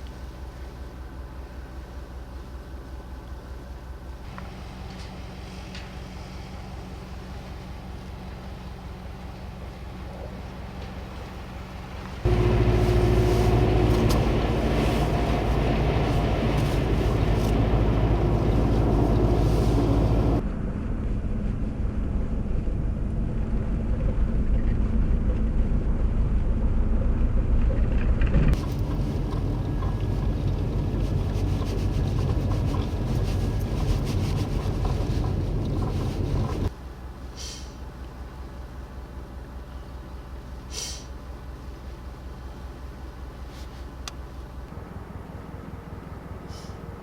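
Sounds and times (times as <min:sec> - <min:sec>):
vehicle engine and road noise: 0:00.0 - 0:47.0.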